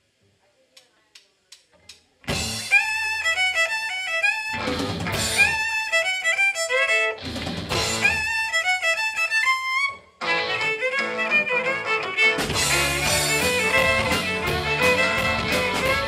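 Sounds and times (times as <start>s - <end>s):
country band playing: 2.3s - 16.0s
fast fiddle lead: 2.6s - 16.0s.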